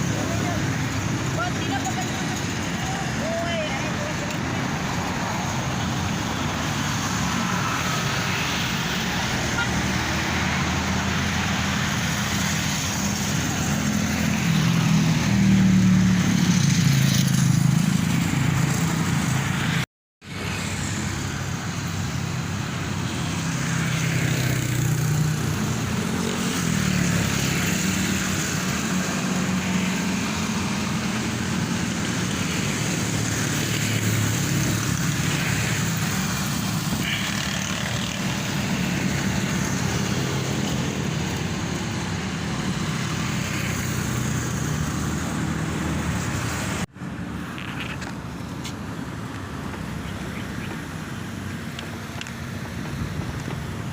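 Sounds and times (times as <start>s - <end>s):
vehicle engine and road noise: 0.0s - 53.9s.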